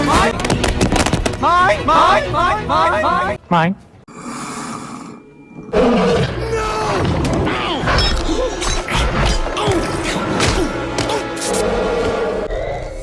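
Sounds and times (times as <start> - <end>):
dramatic film score music: 0.0 - 3.4, 5.3 - 13.0.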